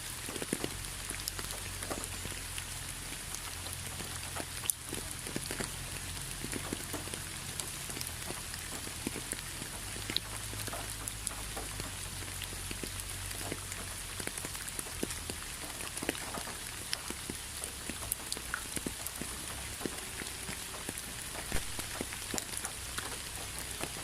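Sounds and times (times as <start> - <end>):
rain falling: 0.0 - 24.0
drops ticking on a surface: 0.2 - 24.0.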